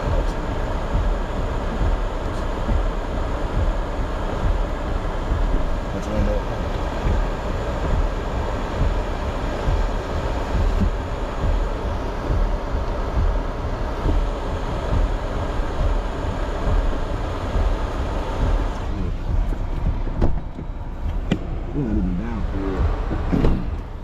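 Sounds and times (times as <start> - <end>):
vehicle engine low rumble: 0.0 - 24.0.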